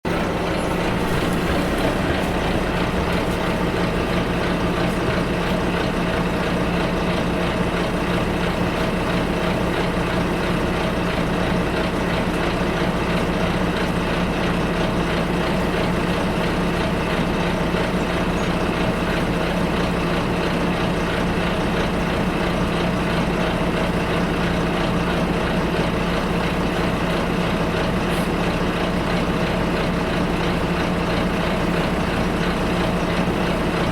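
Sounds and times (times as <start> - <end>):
bus engine idling: 0.0 - 33.9.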